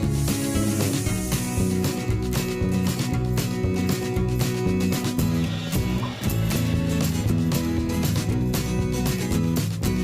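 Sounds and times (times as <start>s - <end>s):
strummed guitar music with beat: 0.0s - 10.0s.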